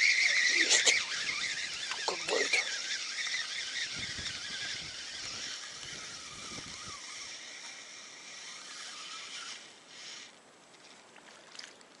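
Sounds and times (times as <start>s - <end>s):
wind and water hiss: 0.0s - 12.0s.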